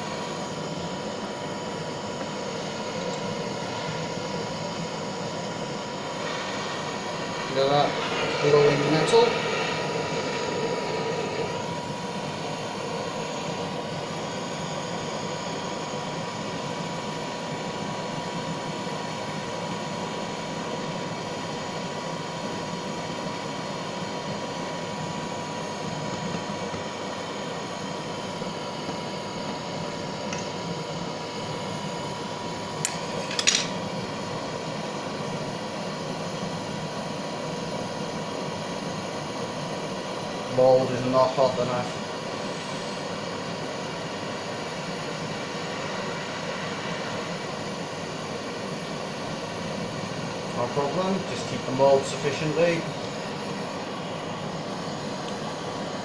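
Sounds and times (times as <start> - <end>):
blowtorch hissing: 0.0 - 56.0.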